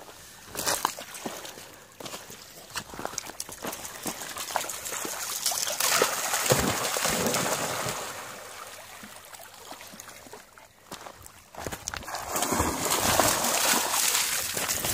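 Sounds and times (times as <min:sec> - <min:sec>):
dogs splashing through water: 0:00.6 - 0:10.8, 0:11.8 - 0:14.9.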